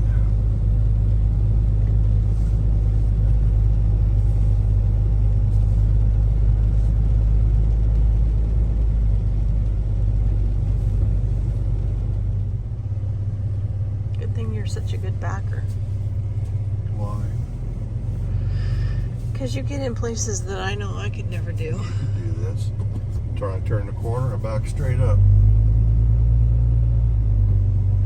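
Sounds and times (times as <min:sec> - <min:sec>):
engine and road drone inside cab: 0:00.0 - 0:28.0.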